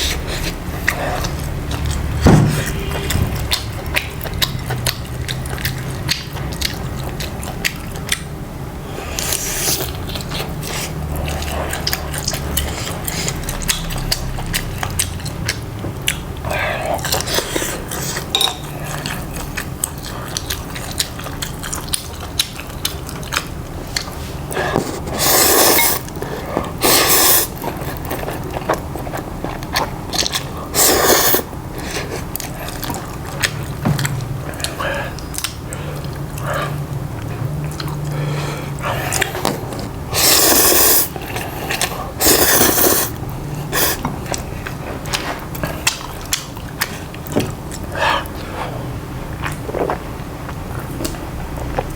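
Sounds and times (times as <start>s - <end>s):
chewing with mouth clicks: 0.0s - 8.4s, 9.0s - 51.9s.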